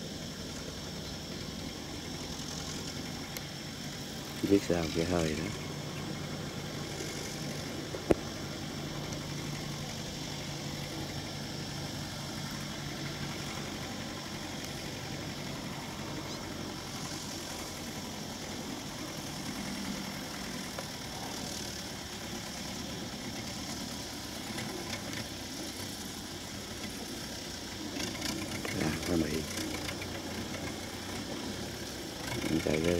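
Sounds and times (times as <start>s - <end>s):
tractor diesel engine under load: 0.0s - 32.9s.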